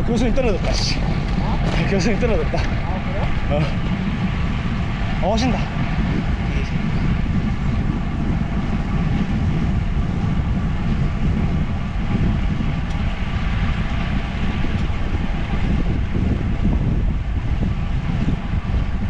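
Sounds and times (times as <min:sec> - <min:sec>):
bicycle tyre and road noise: 0:00.0 - 0:19.0
wind buffeting microphone: 0:00.0 - 0:19.0.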